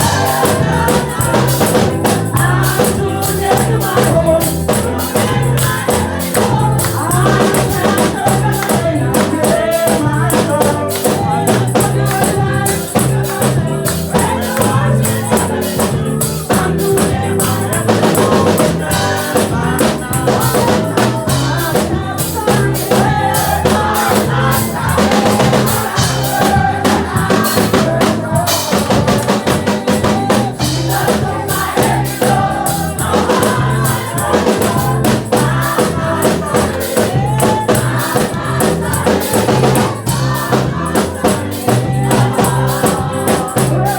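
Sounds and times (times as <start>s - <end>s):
tambourine shaken: 0.0s - 43.9s
voices singing gospel music: 0.0s - 43.9s.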